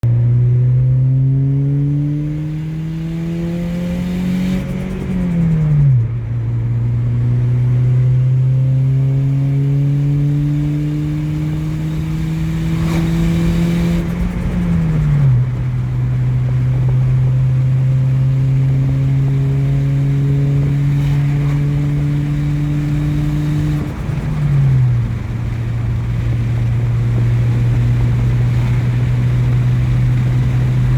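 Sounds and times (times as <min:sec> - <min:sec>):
turbocharged car engine revving: 0:00.0 - 0:30.9.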